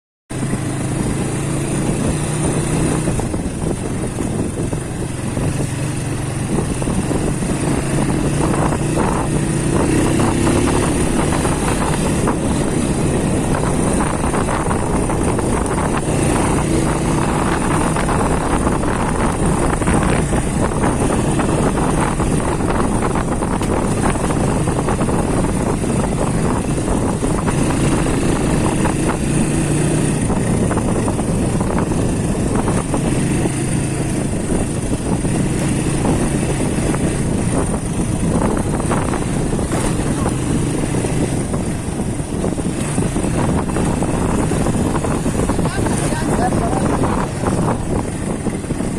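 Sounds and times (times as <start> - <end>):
motorcycle engine revving: 0.3 - 48.9.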